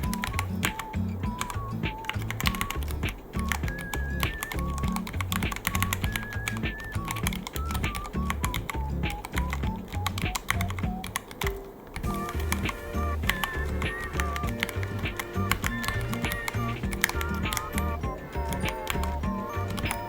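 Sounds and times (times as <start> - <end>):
background music with bass: 0.0 - 11.2, 12.0 - 20.0
mechanical keyboard typing: 0.0 - 20.0.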